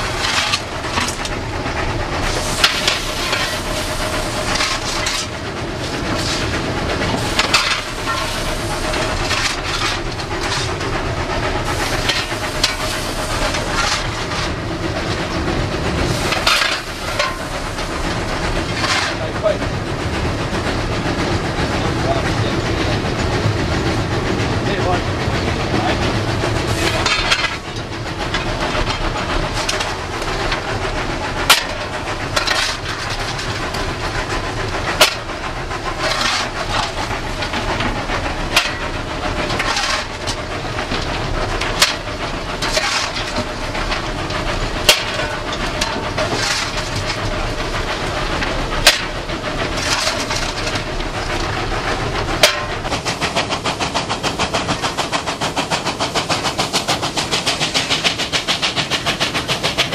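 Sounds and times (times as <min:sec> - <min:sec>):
rapid locomotive exhaust beats: 0:00.0 - 0:59.9
steam locomotive cab din: 0:00.0 - 0:59.9.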